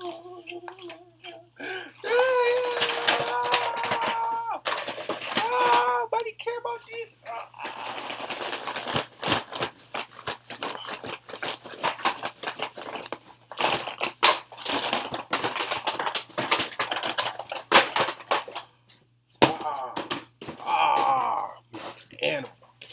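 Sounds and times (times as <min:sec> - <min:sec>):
boxes and packets being handled: 0:00.0 - 0:18.8.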